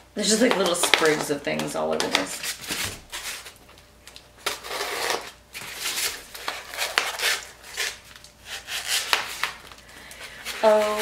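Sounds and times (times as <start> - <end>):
wrapping rustling and scraping: 0.2 - 11.0.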